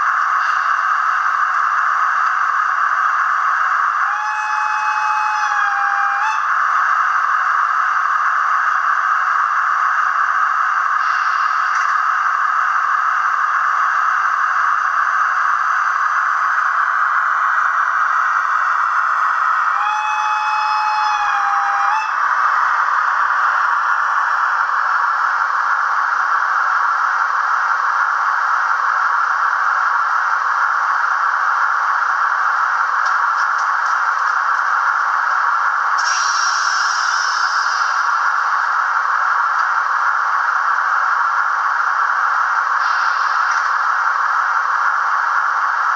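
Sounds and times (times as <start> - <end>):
model locomotive speaker hiss: 0.0 - 45.9.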